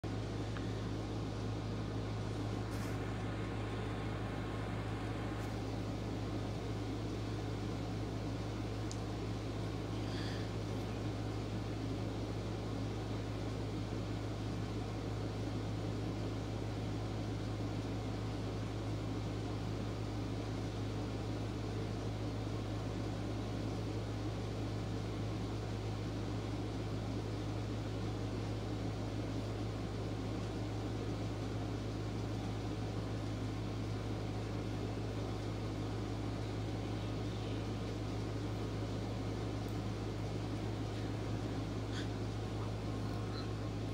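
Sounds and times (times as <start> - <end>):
low hum: 0.0 - 43.9.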